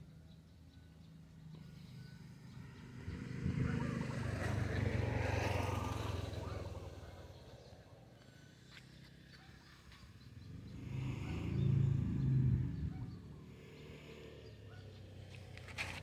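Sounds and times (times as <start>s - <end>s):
motor vehicle passing by: 0.0s - 16.0s.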